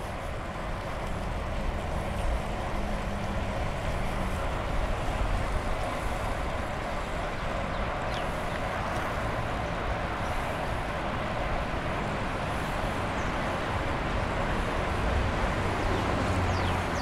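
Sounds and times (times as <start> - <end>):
car traffic: 0.0 - 17.0
wind rumbling on microphone: 0.0 - 17.0.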